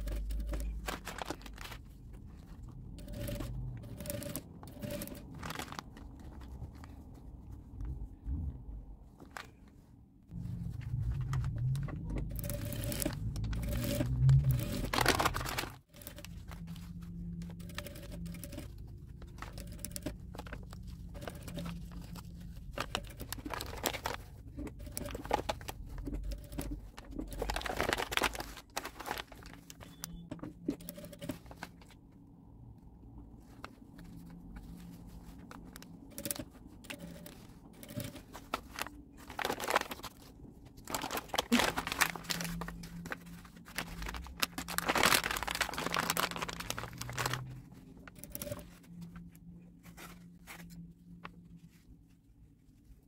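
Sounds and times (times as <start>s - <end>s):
paper crinkling and rustling: 0.0s - 8.2s, 9.1s - 32.1s, 33.4s - 53.0s.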